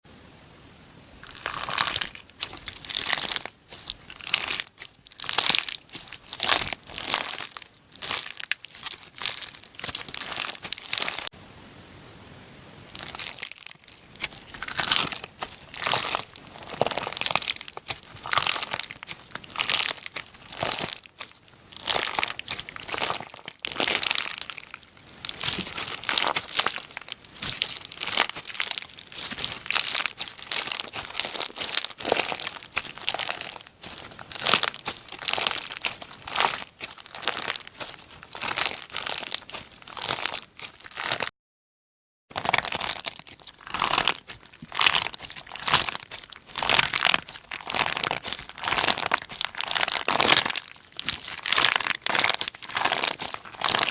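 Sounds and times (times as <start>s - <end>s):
slime squishing with crackles: 1.2s - 11.3s, 12.9s - 41.3s, 42.3s - 53.9s.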